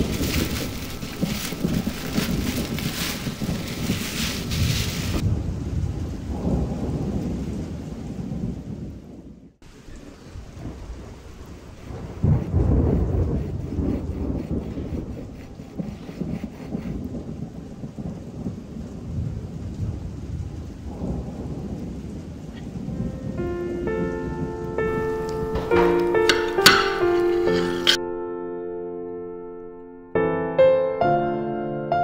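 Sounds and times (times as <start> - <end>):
steady rain: 0.0 - 28.0
thunder rumbling: 0.0 - 28.0.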